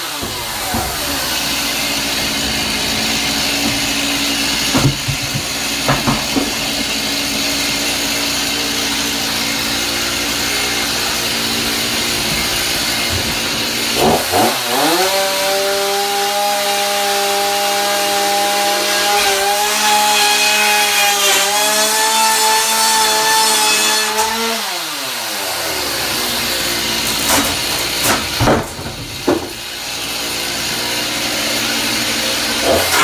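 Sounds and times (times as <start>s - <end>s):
chainsaw revving: 0.0s - 33.0s.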